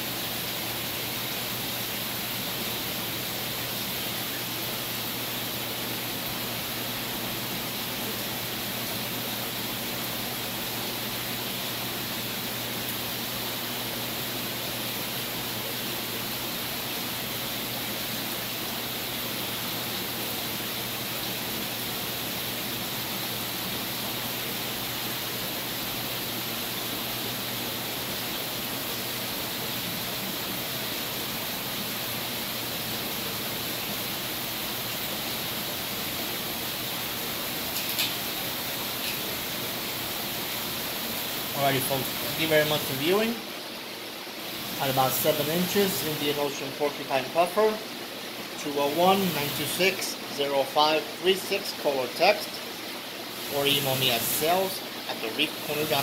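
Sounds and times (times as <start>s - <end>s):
aquarium water rushing: 0.0s - 56.0s.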